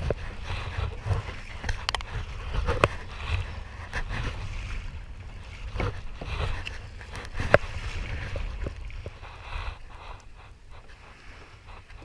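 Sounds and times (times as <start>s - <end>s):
paddle splashes and knocks: 0.0s - 12.0s
pole rustling in life jacket: 0.0s - 12.0s
water washing around hull: 0.0s - 12.0s
wind rumbling on microphone: 0.0s - 12.0s.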